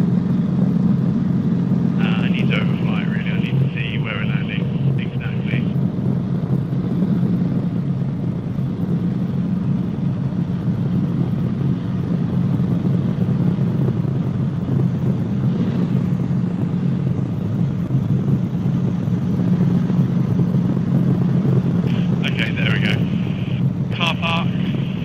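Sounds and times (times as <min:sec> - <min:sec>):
helicopter engine and rotors droning: 0:00.0 - 0:25.0.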